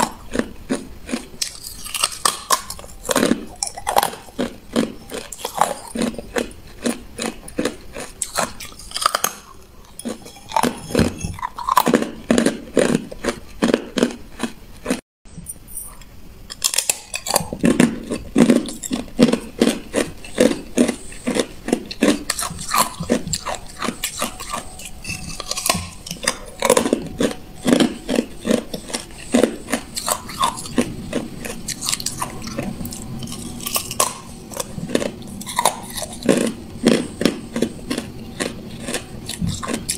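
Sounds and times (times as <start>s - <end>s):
ice being chewed: 0.0s - 15.0s, 15.8s - 39.9s.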